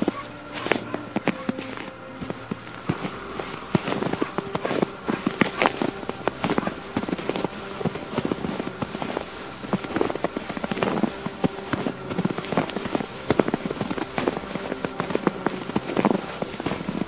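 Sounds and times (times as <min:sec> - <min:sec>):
boots crunching through snow: 0:00.0 - 0:17.0.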